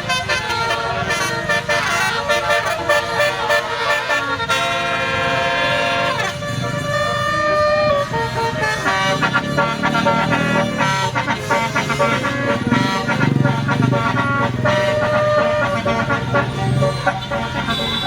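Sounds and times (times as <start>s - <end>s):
bus horn playing notes: 0.0s - 18.0s.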